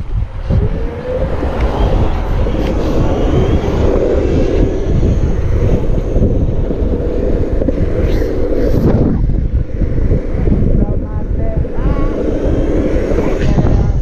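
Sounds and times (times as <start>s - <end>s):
road rolling rumble: 0.0s - 14.0s
wind buffeting microphone: 0.0s - 14.0s.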